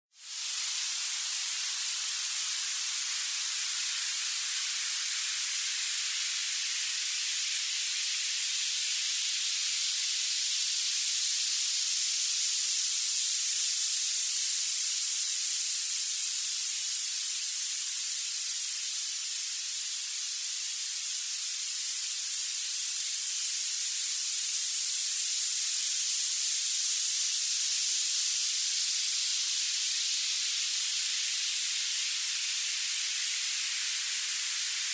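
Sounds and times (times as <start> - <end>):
synthetic high-pitched hiss: 0.2 - 34.9.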